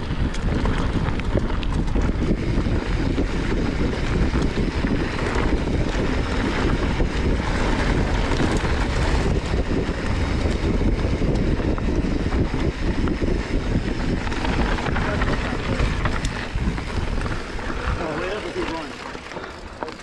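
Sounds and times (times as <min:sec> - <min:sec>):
wind on microphone: 0:00.0 - 0:19.8
bike rattling on dirt trail: 0:00.0 - 0:20.0.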